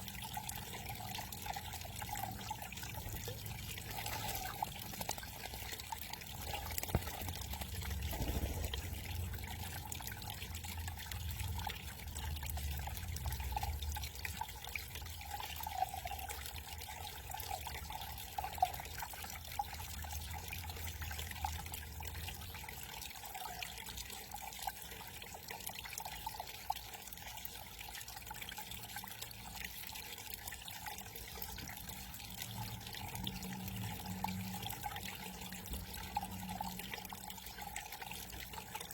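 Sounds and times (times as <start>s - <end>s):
small waterfall trickling and splashing: 0.0s - 38.9s.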